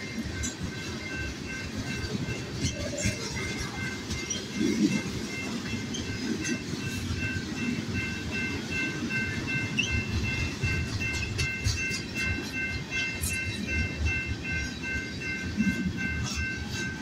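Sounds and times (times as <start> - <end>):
freight train rolling past: 0.0 - 17.0
railroad crossing bell ringing: 0.0 - 17.0.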